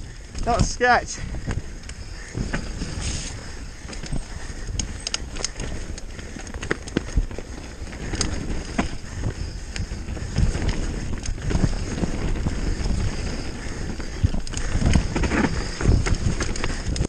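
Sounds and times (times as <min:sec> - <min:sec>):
bike tyres rumbling over dirt: 0:00.0 - 0:17.0.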